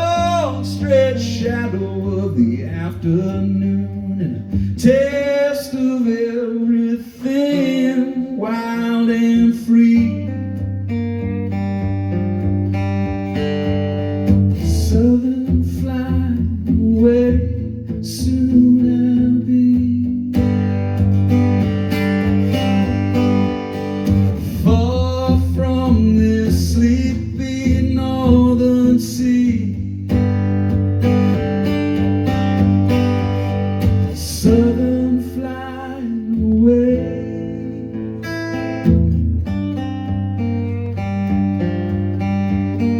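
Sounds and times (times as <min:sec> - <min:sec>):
acoustic guitar sliding notes: 0:00.0 - 0:42.9.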